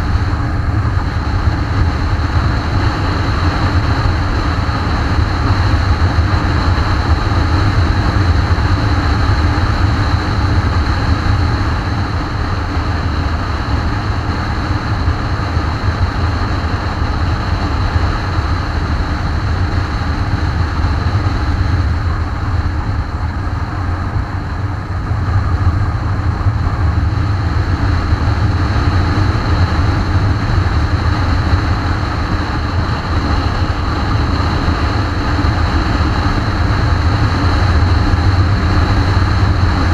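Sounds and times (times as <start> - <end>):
road noise: 0.0 - 39.9
wind rush over microphone: 0.0 - 39.9.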